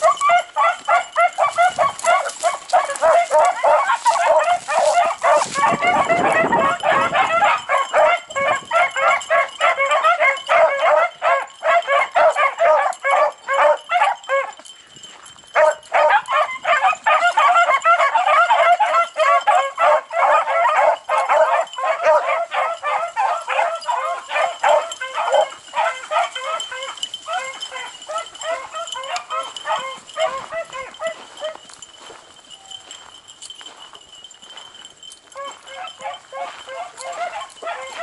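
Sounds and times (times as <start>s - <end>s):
hounds baying: 0.0s - 38.0s.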